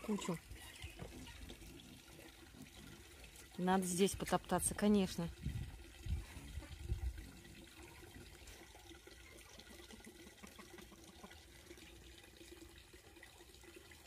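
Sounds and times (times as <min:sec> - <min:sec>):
faint water sounds: 0:00.0 - 0:14.0.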